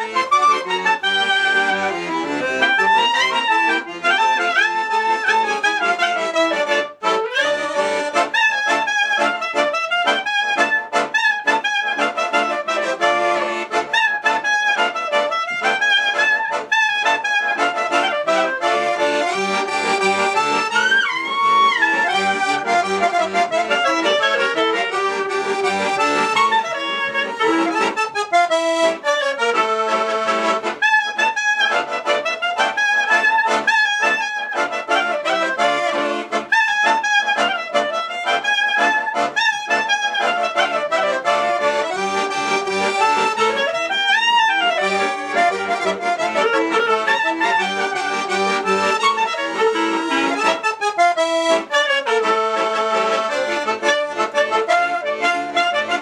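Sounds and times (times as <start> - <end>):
clarinet playing: 0.0 - 56.0
piano accordion playing: 0.0 - 56.0.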